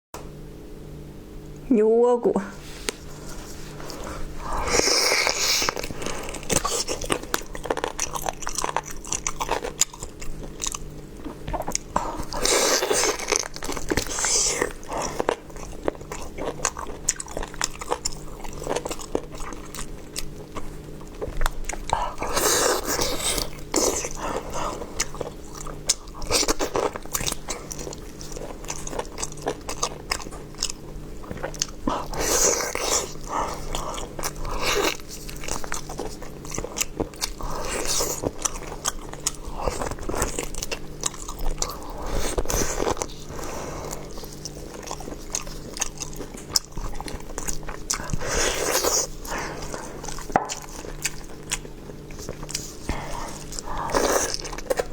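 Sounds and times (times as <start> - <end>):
person chewing food: 2.6 - 54.9.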